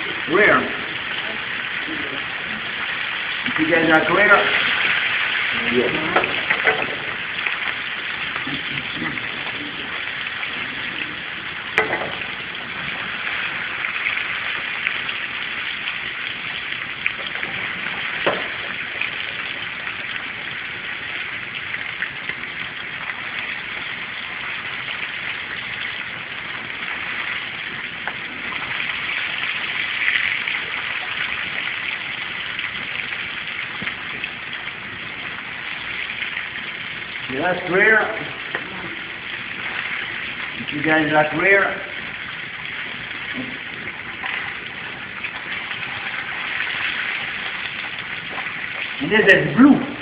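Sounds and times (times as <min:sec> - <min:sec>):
fish sizzling in oil: 0:00.0 - 0:50.0.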